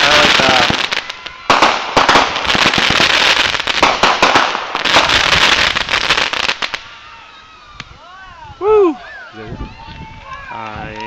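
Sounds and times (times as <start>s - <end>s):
fireworks crackling and banging: 0.0s - 8.7s, 9.6s - 11.0s.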